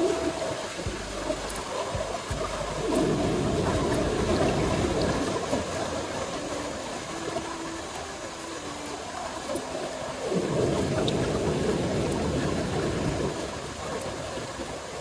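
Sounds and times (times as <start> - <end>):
water running and gurgling: 0.0 - 15.0.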